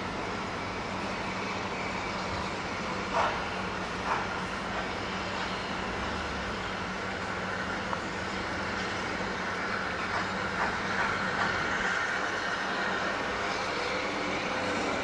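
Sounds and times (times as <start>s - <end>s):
steam locomotive hiss: 0.0s - 15.0s.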